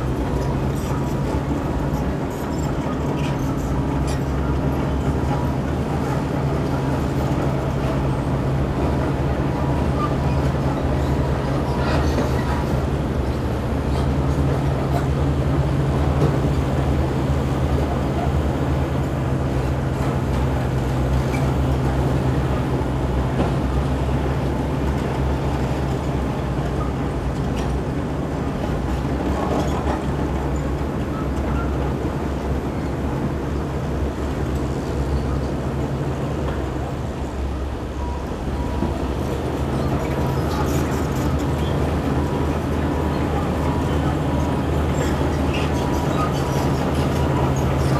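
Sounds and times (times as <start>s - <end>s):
bulldozer engine running: 0.0s - 47.9s
distant heavy machinery engines: 0.0s - 47.9s.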